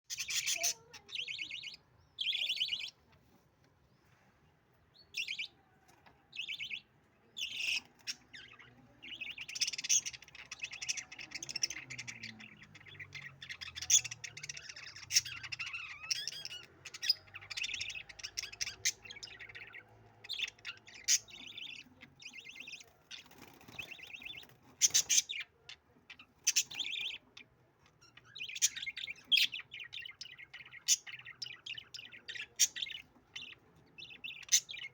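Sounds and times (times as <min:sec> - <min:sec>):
budgerigars chirping and warbling: 0:00.1 - 0:03.2, 0:04.9 - 0:34.9.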